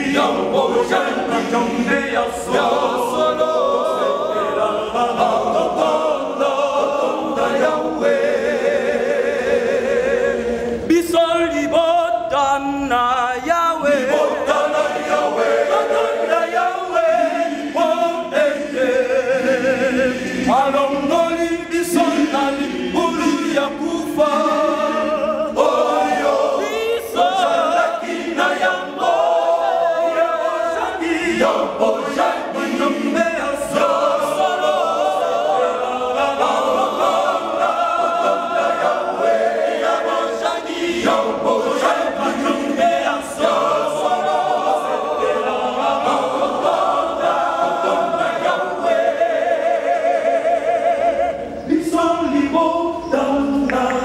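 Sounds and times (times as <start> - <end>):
men's choir singing a hymn: 0.0 - 54.0.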